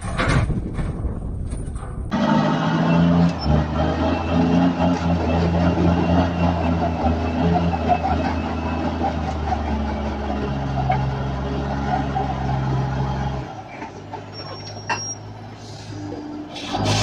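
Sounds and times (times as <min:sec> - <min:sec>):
heavy vehicle engine running: 0:01.8 - 0:17.0.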